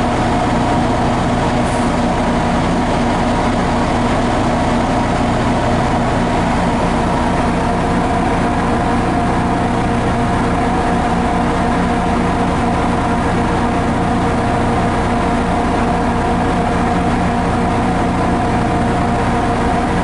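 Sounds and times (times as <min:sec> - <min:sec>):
diesel train engine idling: 0:00.0 - 0:20.0.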